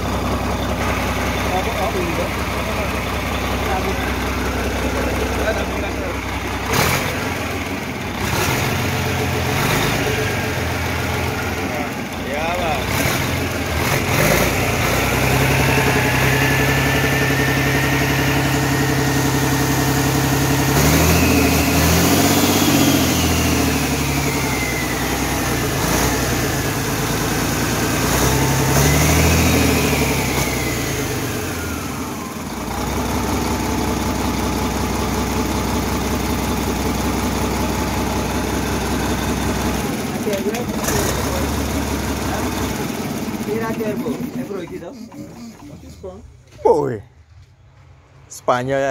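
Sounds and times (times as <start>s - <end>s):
high engine whine: 0.0s - 48.7s
diesel engine idling and revving: 0.0s - 48.9s.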